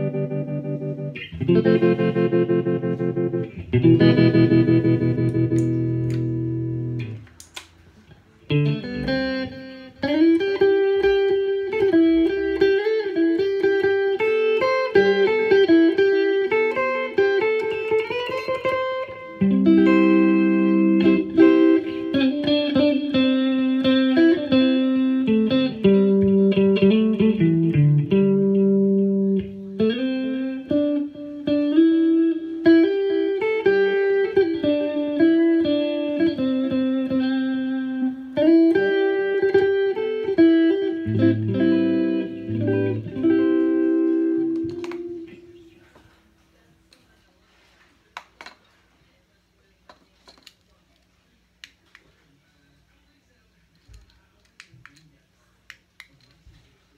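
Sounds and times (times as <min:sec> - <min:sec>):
electric guitar melody: 0:00.0 - 0:46.0.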